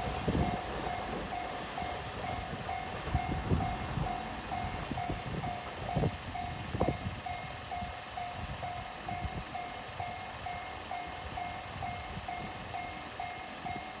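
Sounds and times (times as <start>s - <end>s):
freight train rumbling: 0.0s - 14.0s
level crossing alarm dinging: 0.0s - 14.0s
train wheels knocking: 0.0s - 14.0s.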